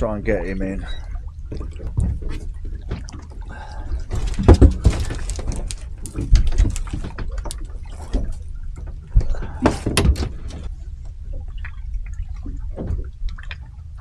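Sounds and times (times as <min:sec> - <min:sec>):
water splashing and dripping: 0:00.0 - 0:14.0.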